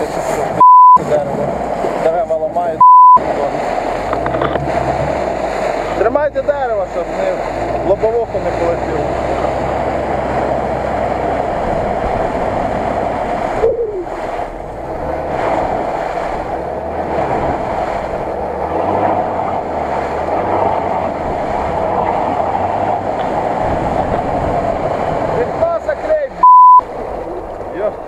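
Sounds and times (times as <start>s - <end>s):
engine running hard: 0.0s - 28.0s
wheels churning through mud: 0.0s - 28.0s.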